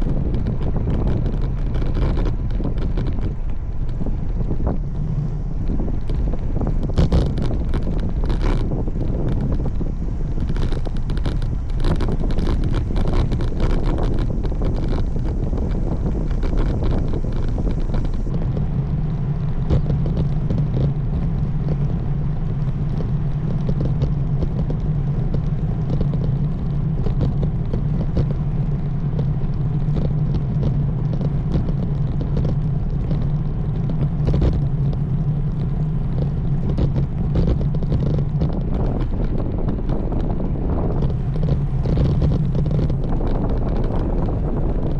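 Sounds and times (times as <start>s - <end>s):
rumbling road noise: 0.0s - 44.9s
steady low hum: 0.0s - 44.9s
wind buffeting microphone: 0.0s - 44.9s.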